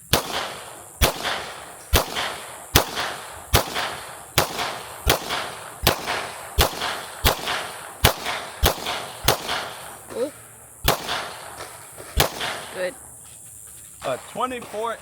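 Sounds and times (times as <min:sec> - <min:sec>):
pistol shots: 0:00.0 - 0:10.1, 0:10.8 - 0:12.9.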